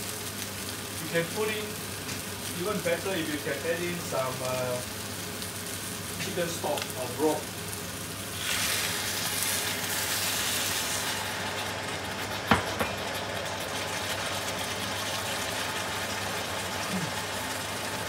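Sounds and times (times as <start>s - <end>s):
wok sizzling: 0.0s - 18.0s.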